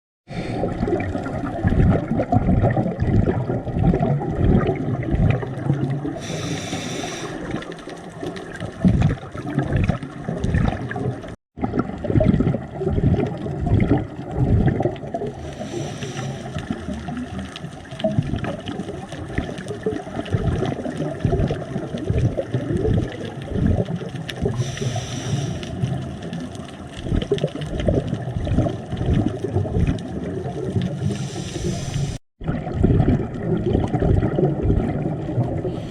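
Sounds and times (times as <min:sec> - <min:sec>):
hissy bubble bursts: 0:00.3 - 0:35.9
underwater water sloshing: 0:00.4 - 0:35.9.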